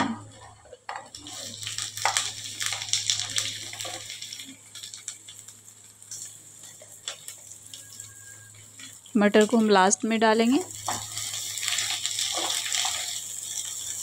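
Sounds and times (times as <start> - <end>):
pieces dropping into oil: 0.0 - 14.0
vegetables sizzling in hot oil: 0.0 - 14.0.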